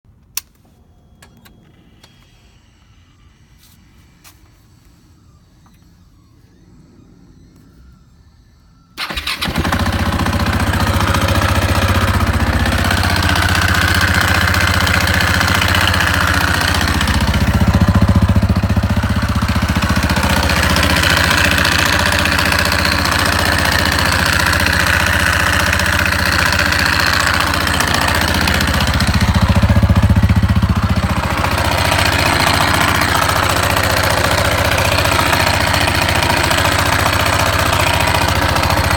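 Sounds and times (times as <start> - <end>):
motorcycle engine starting and running: 1.1 - 38.9.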